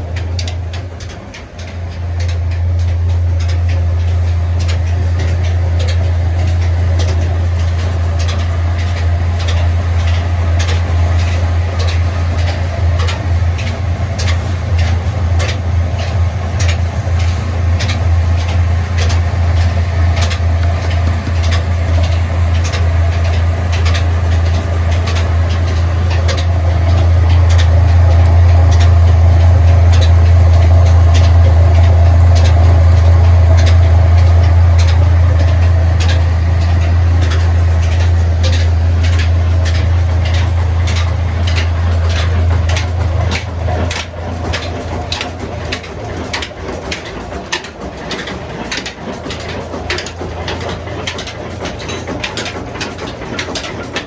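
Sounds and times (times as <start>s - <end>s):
diesel engine droning: 0.0s - 54.0s
sharp engine knocks: 0.4s - 54.0s.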